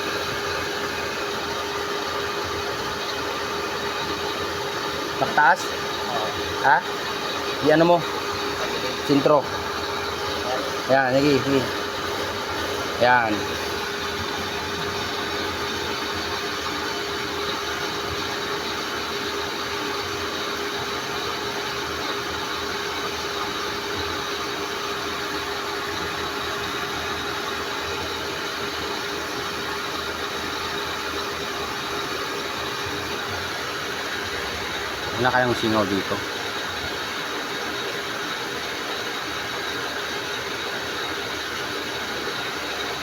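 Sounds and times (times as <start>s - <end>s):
electric water pump humming: 0.0s - 43.0s.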